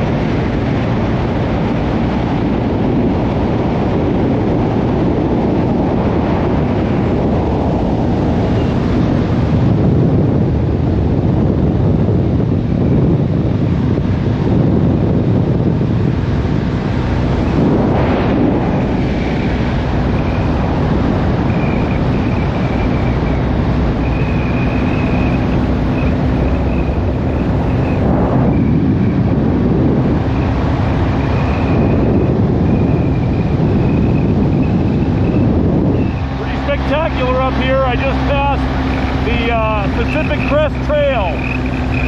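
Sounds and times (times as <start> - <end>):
motorcycle engine drone: 0.0 - 42.0
wind rush: 0.0 - 42.0.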